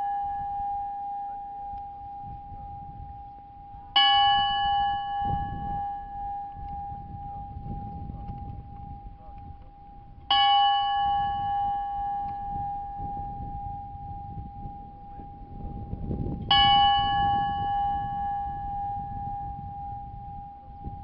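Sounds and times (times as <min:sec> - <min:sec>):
church bell ringing: 0:00.0 - 0:21.0.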